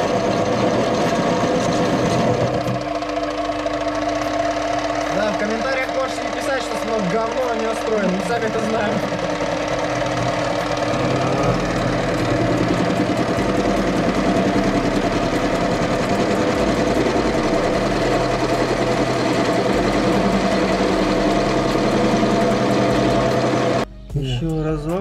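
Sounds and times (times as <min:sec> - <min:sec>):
metal lathe humming: 0:00.0 - 0:23.9.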